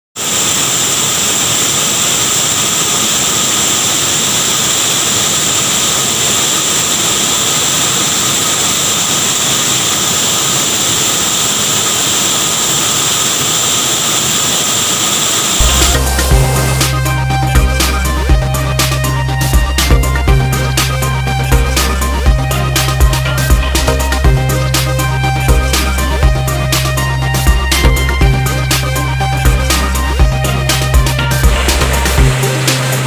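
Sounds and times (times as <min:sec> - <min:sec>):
waterfall rushing: 0:00.2 - 0:33.0.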